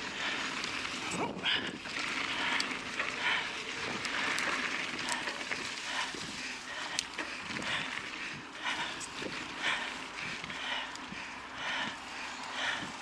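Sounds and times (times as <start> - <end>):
bike clicks and rattles: 0.0 - 13.0
person breathing hard: 0.0 - 13.0.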